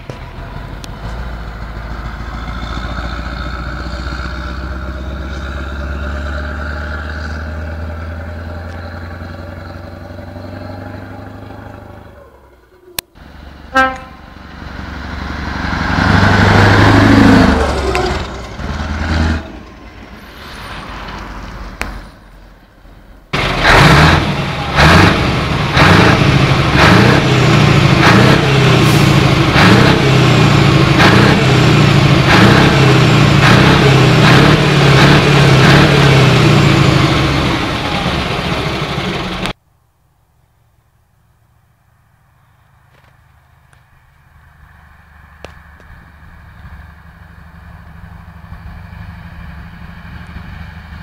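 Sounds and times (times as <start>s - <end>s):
diesel engine running under load: 0.0s - 39.6s, 41.4s - 51.0s.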